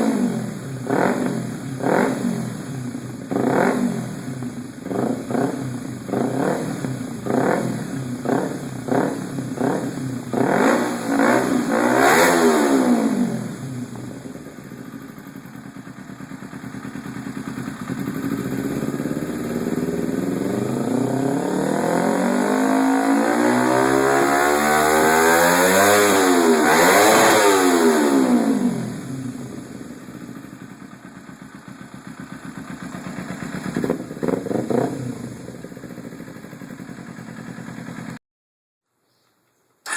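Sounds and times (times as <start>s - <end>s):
motorcycle engine revving: 0.0s - 38.2s.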